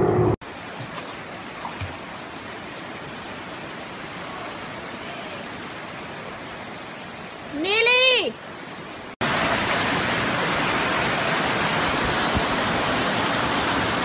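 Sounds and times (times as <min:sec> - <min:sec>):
floodwater rushing: 0:00.4 - 0:14.0.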